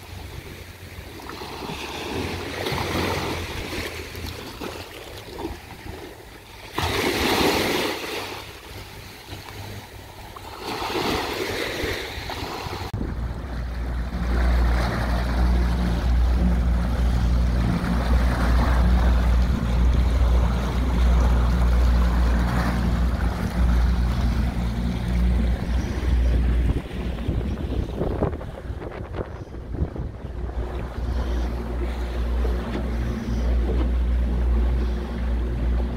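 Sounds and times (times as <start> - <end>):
outboard motor running: 0.0 - 35.9
rush of boat wake: 0.0 - 35.9
wind and water rushes: 0.0 - 35.9.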